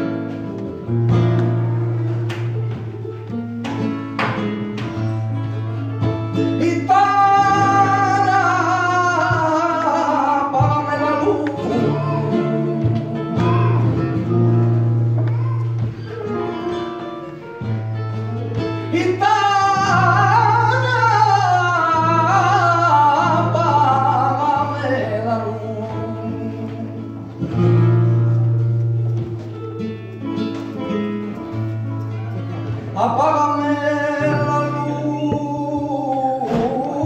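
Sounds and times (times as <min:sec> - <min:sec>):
flamenco guitar: 0:00.0 - 0:37.0
man singing flamenco: 0:00.0 - 0:37.0.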